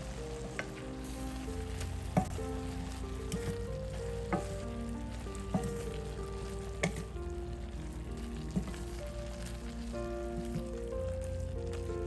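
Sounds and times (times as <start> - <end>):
soft background music: 0.0 - 12.0
vegetables sizzling in a pan: 0.0 - 12.0.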